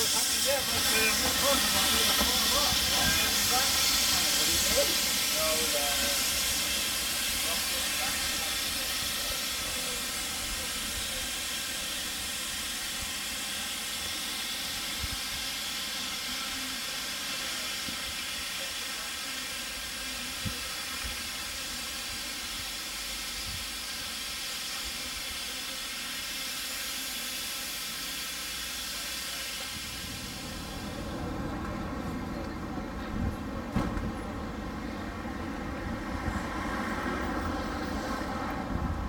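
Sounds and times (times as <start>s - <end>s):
steam locomotive hissing: 0.0s - 39.0s.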